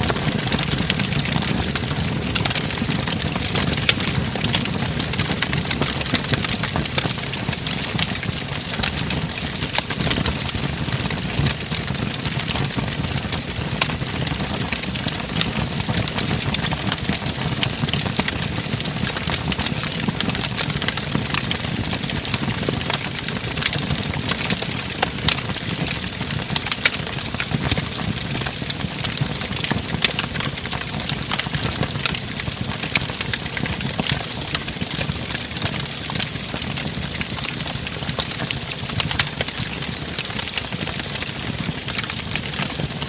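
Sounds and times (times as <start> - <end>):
low rumble of flames: 0.0 - 43.0
wood fire crackling: 0.0 - 43.0.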